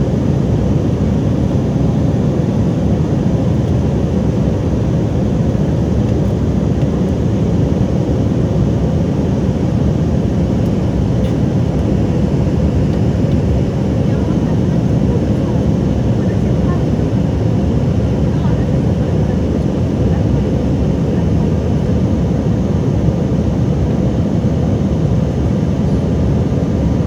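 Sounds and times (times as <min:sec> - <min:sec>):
jet airliner cabin rumble: 0:00.0 - 0:27.0.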